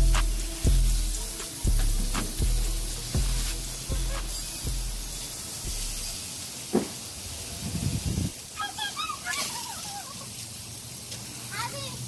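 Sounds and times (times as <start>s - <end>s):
meat sizzling over wood fire: 0.0s - 12.0s.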